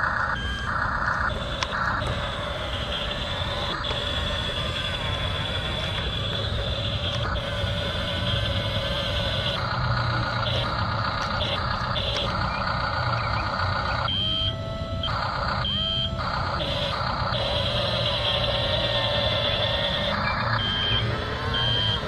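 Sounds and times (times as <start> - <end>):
electric motors whining: 0.0 - 22.0
short electronic beeps: 0.3 - 22.0.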